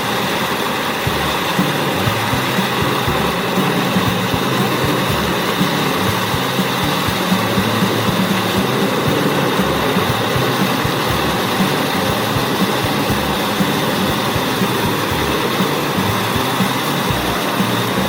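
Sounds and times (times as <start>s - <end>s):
grinder engine running: 0.0s - 18.0s.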